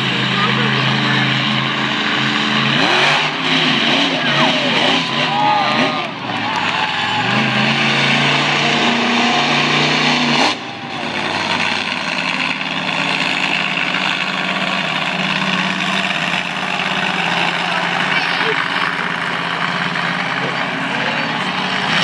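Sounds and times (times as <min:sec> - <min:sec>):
truck engine revving hard: 0:00.0 - 0:22.0.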